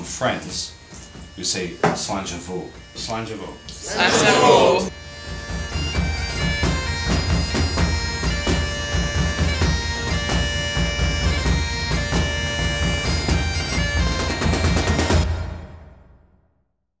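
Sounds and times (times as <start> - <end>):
bagpipe music: 0.0 - 15.4.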